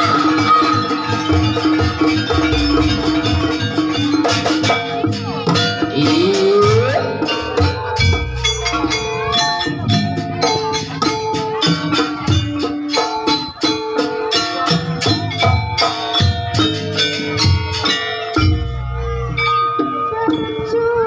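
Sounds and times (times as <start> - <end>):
low drum beats: 0.0 - 19.5
struck metal instruments ringing: 0.0 - 20.8
rattling percussion: 0.0 - 21.0.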